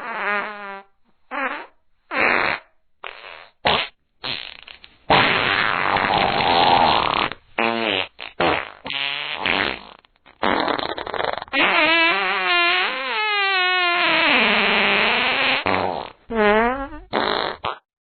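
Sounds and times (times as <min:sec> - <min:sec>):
long fart sound effect: 0:00.0 - 0:17.9.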